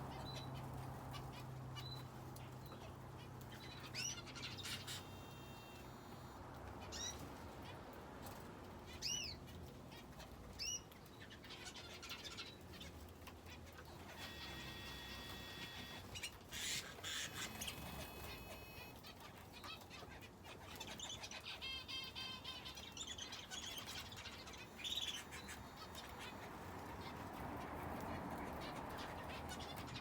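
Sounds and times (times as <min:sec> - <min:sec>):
faint clicks of birds moving: 0:00.0 - 0:30.0
small birds chirping: 0:00.0 - 0:30.0.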